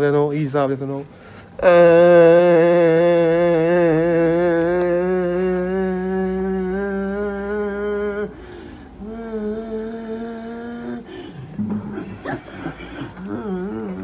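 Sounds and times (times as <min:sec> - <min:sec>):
man imitating truck engine: 0:01.6 - 0:14.0.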